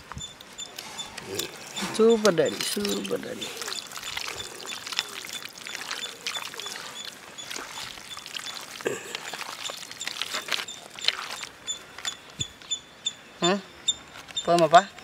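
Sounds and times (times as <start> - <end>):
crackling and scraping: 0.0 - 12.6
high thin chirp: 0.2 - 13.2.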